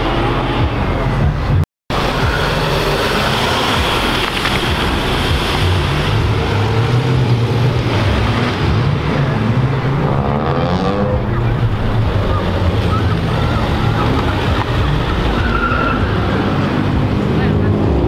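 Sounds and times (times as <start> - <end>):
car engines pulling away: 0.0 - 18.0.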